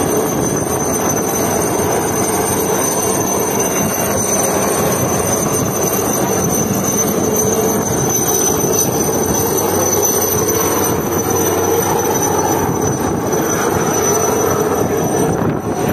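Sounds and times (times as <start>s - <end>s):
high-pitched whine: 0.0s - 15.9s.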